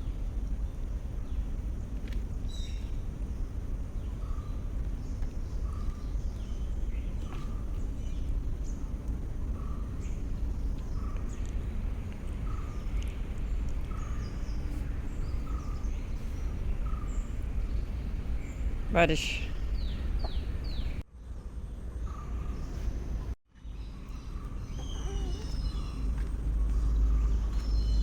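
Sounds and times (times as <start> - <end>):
bird chirping: 0.0 - 21.0, 21.7 - 28.0
low background rumble: 0.0 - 28.0.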